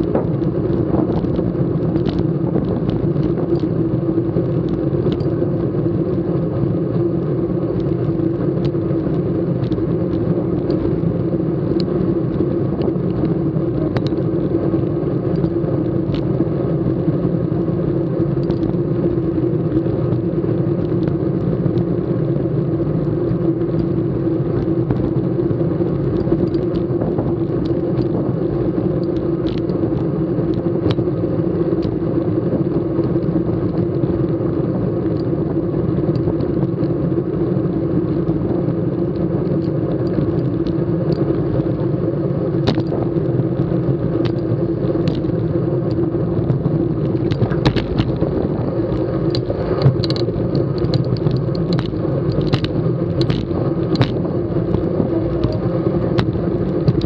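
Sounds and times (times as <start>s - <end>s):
bicycle road and wind rumble: 0.0s - 57.0s.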